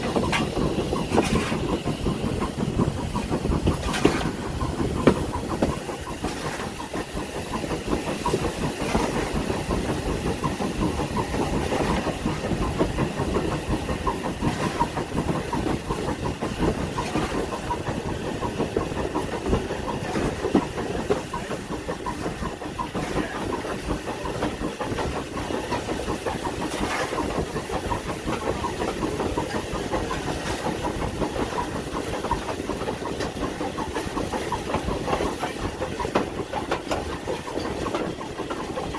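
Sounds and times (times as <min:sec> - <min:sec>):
train rumbling and hissing: 0:00.0 - 0:38.9.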